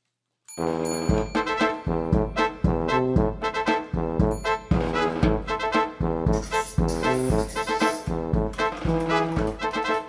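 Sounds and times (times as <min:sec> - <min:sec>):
brass music over a beat: 0:00.6 - 0:10.0.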